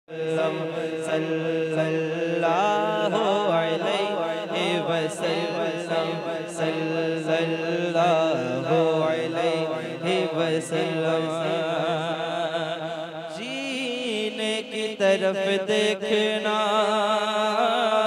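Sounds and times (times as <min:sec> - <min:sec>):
man chanting into a microphone: 0:00.1 - 0:18.0.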